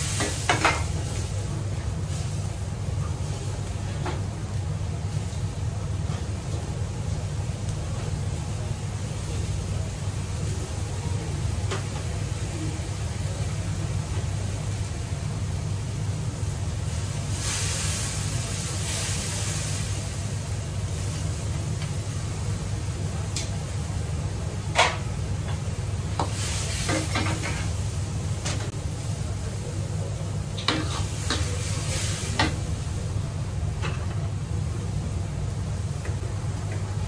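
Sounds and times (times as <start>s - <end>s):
vegetables sizzling in wok: 0.0s - 37.0s
wok range humming: 0.0s - 37.0s.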